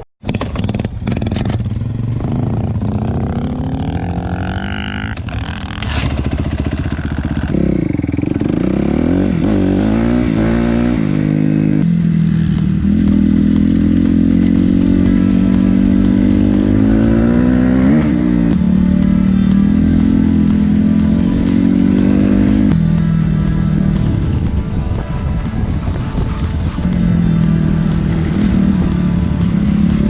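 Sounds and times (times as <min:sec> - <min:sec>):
dirt bike engine accelerating: 0:00.2 - 0:30.0.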